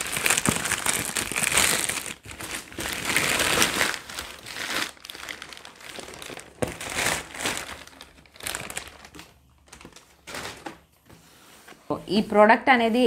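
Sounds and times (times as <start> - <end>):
plastic mailer bag crinkling: 0.0 - 10.9.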